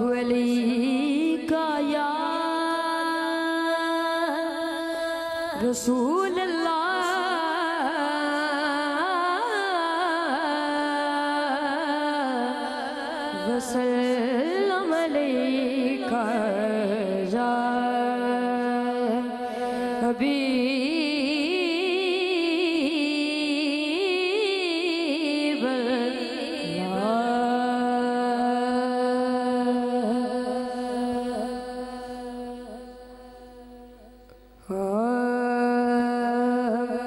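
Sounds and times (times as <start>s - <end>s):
boy singing wordless melisma: 0.0s - 37.0s.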